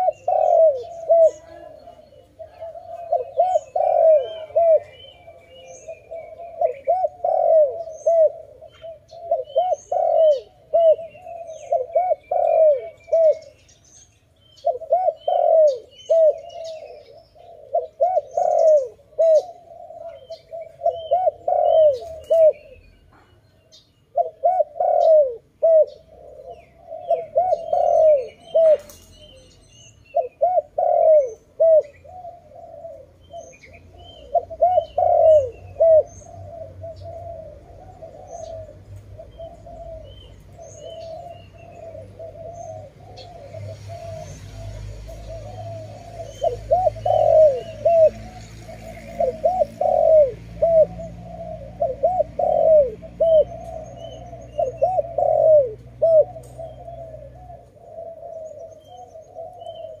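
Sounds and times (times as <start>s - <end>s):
dove cooing: 0.0s - 60.0s
small birds chirping: 0.0s - 60.0s.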